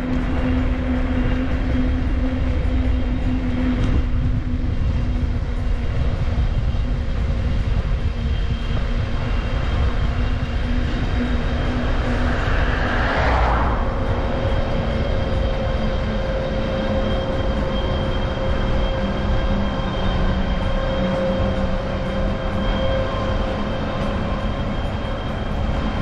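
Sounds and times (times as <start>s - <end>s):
bicycle wind and road noise: 0.0s - 26.0s
constant hum: 0.0s - 26.0s.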